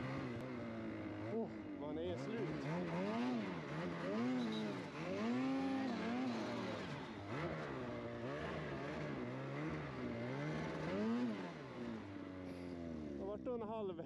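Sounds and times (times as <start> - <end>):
snowmobile engine revving: 0.0 - 13.4.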